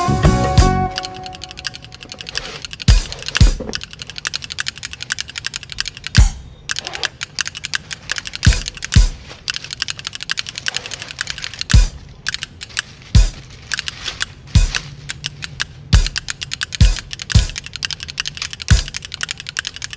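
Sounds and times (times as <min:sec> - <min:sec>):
fast keyboard-like clicking: 0:00.8 - 0:19.9.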